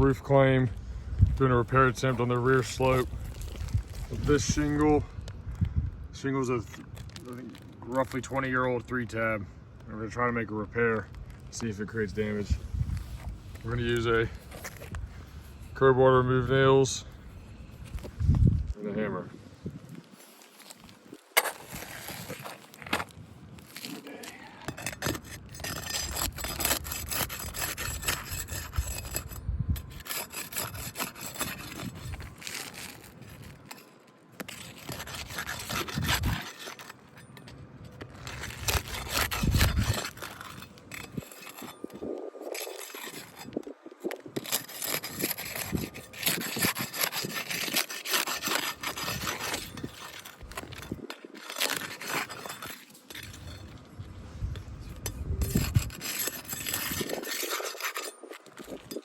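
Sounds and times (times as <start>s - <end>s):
crowbar scraping under shingles: 0.0s - 5.1s, 10.9s - 17.0s, 20.0s - 59.0s.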